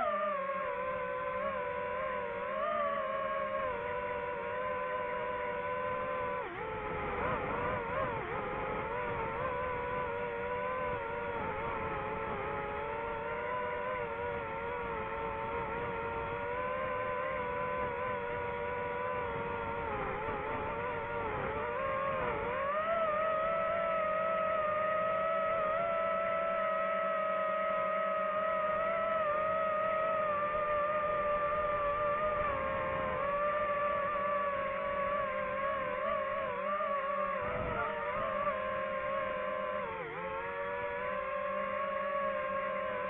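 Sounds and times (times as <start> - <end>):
drone propellers whining: 0.0 - 43.0.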